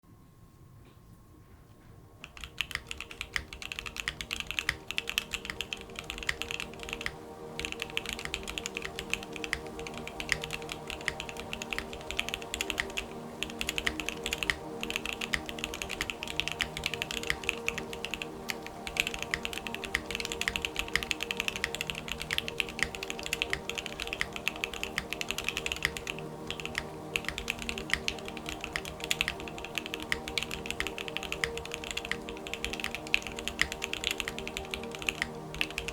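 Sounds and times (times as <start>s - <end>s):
background music with held notes: 0.1s - 35.9s
fast typing on mechanical keyboard: 2.2s - 35.9s.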